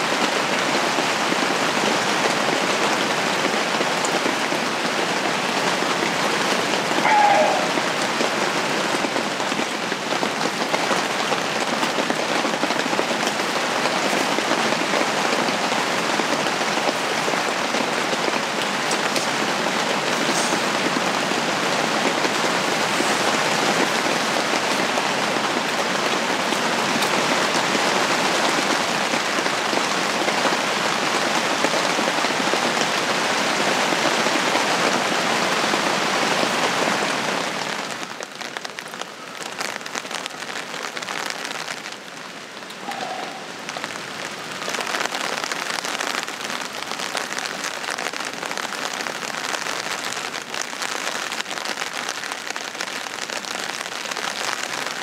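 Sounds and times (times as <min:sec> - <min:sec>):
rain on tent fabric: 0:00.0 - 0:55.0.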